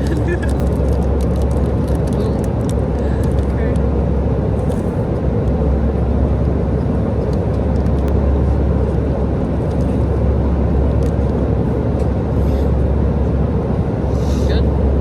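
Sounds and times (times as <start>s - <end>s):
airliner cabin rush: 0.0s - 15.0s.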